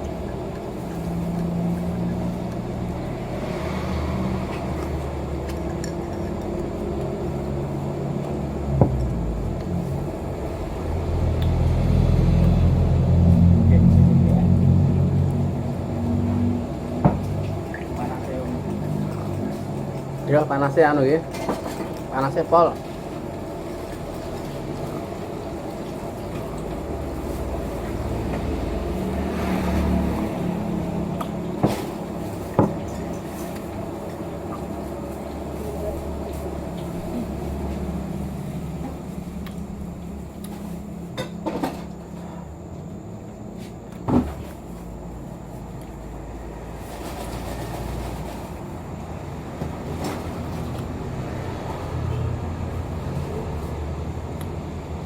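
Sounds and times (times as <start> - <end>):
engine humming: 0.0 - 55.0.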